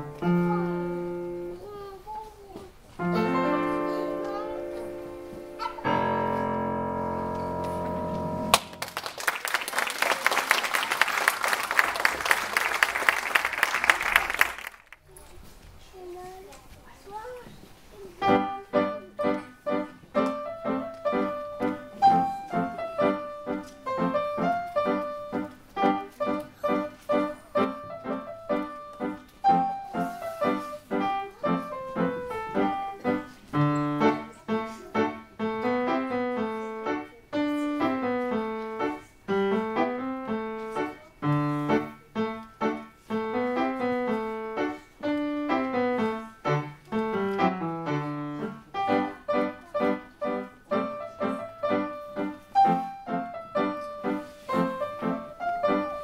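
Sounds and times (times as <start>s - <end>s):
piano tune: 0.0s - 2.2s, 2.9s - 13.8s, 18.2s - 56.0s.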